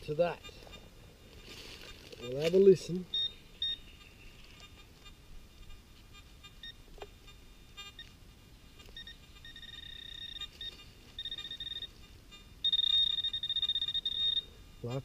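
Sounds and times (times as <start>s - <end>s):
probe moving through soil: 0.0s - 14.4s
metal detector probe beeping: 1.4s - 8.2s, 8.8s - 15.0s.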